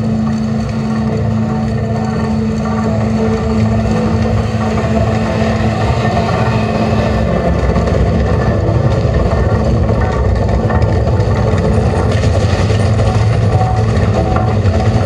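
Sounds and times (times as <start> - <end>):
loud steady low drone: 0.0 - 15.0.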